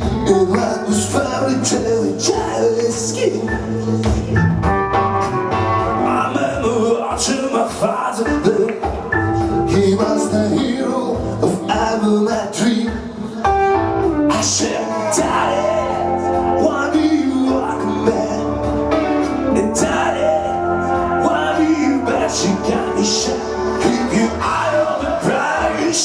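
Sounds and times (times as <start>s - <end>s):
man singing: 0.0s - 4.2s, 6.0s - 13.6s, 14.3s - 26.0s
backing track with bass and beat: 0.0s - 26.0s.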